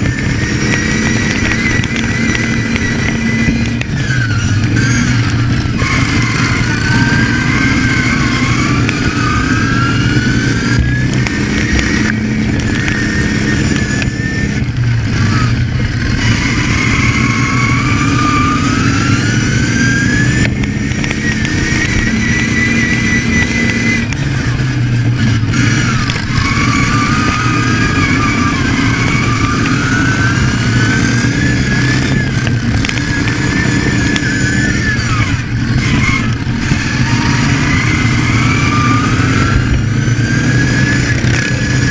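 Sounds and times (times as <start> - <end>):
lawn mower engine revving: 0.0 - 41.9.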